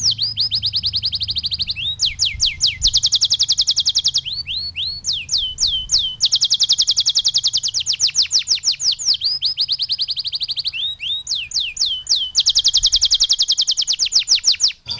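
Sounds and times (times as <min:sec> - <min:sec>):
canary singing trills: 0:00.0 - 0:14.9.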